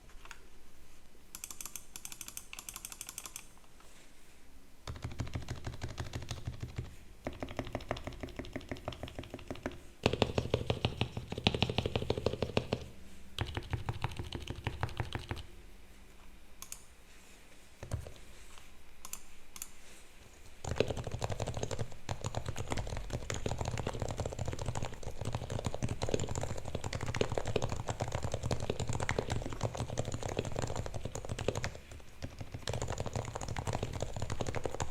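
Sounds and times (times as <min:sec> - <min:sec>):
soft keyboard typing: 0:01.3 - 0:03.7, 0:04.8 - 0:15.6, 0:16.6 - 0:16.9, 0:17.8 - 0:19.8, 0:20.6 - 0:34.9.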